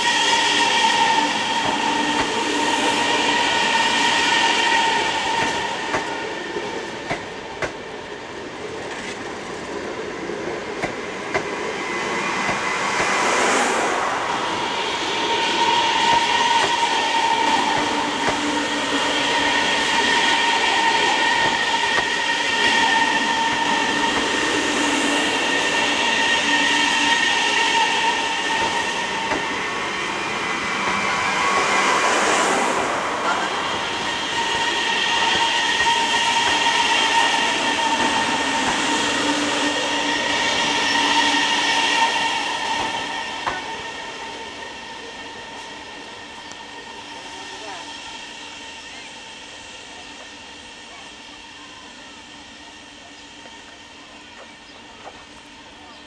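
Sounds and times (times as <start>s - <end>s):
electric train rolling past: 0.0s - 56.0s.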